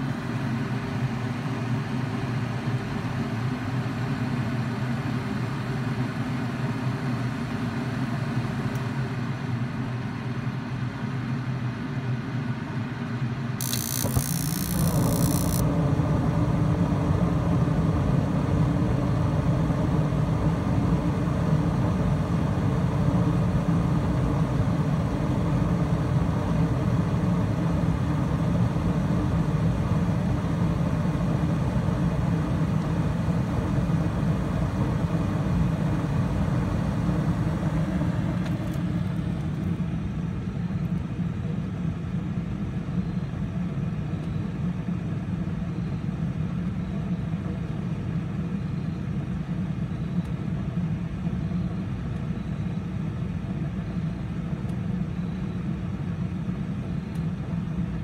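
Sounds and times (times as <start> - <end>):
gas heater humming and rumbling: 0.0 - 58.0.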